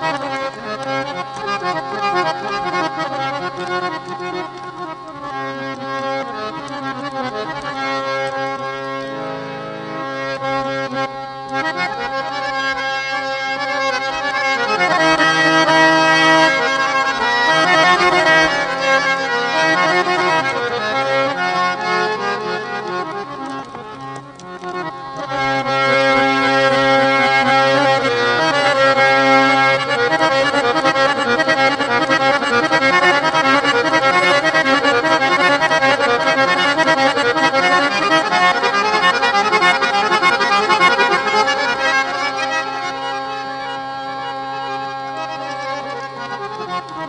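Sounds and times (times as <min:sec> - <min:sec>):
harmonium melody over drone: 0:00.0 - 0:47.0.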